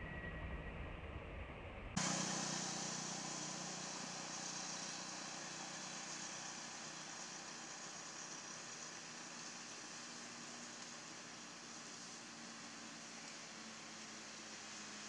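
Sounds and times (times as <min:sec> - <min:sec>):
outdoor background hiss: 0:02.0 - 0:15.0.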